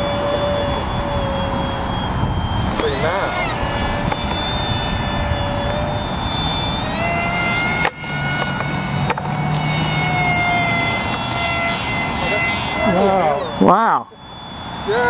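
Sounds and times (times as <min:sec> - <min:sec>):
wind noise on microphone: 0:00.0 - 0:13.7
model plane electric motor whining: 0:00.0 - 0:15.0.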